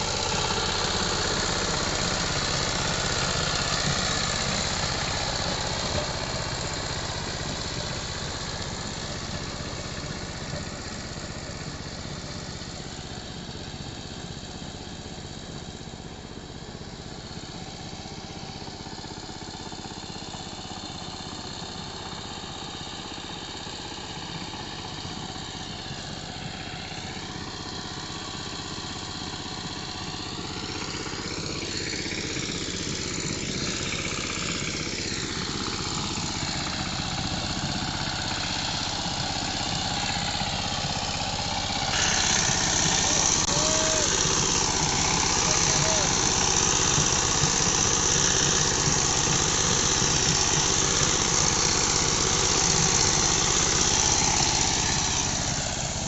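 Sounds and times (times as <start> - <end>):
tiller diesel engine running: 0.0 - 56.0.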